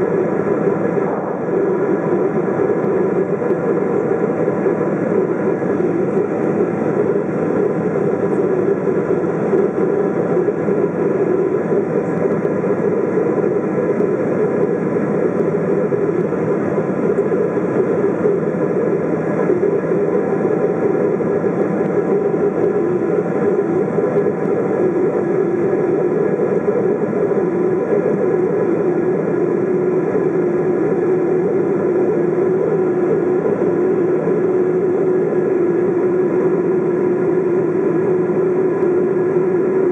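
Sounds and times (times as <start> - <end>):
faint whining tones: 0.0 - 39.9
jet engine cabin roar: 0.0 - 39.9.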